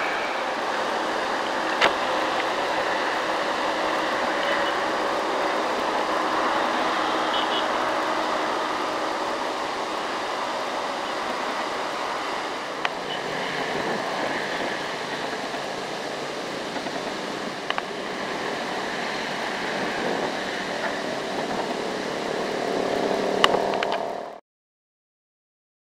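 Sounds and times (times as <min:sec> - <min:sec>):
road noise: 0:00.0 - 0:24.4
vehicle engine running: 0:00.0 - 0:24.4.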